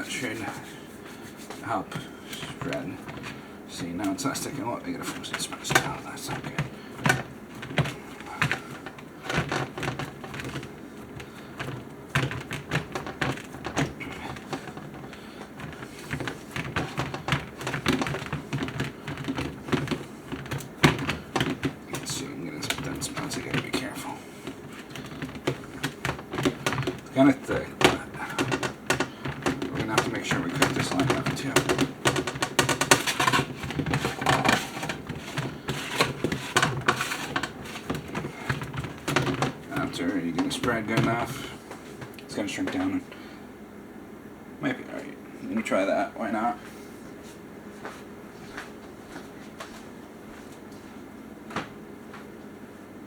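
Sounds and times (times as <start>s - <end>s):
hands pressing dough tapping: 0.0s - 42.9s.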